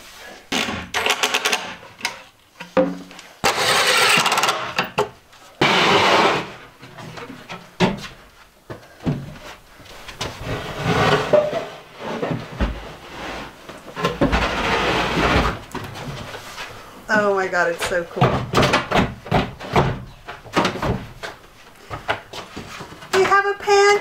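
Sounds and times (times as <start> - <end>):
plywood panels knocking and scraping: 0.5 - 9.6, 10.2 - 16.5, 17.8 - 23.9.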